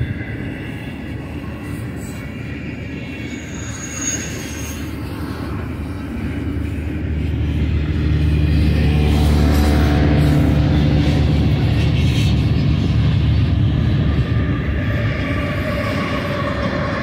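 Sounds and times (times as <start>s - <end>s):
high wheel squeal: 0.0s - 6.8s, 9.2s - 17.0s
freight train wheels rumbling: 0.0s - 17.0s.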